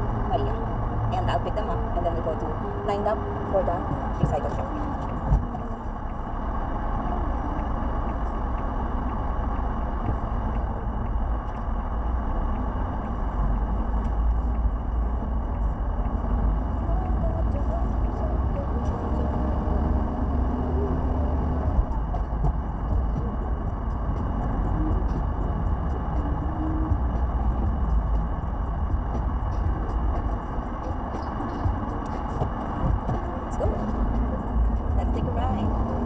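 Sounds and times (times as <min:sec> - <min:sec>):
car road and engine noise: 0:00.0 - 0:36.0.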